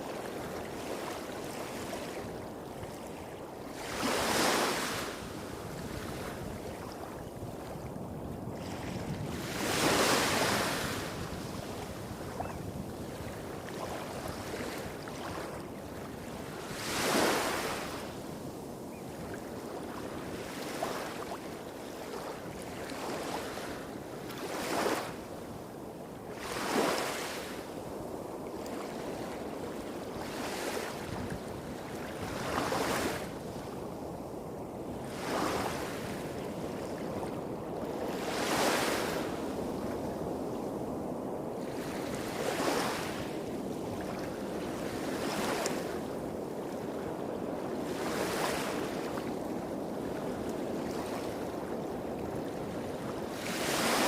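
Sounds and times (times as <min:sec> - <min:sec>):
small waves washing up a beach: 0:00.0 - 0:54.0.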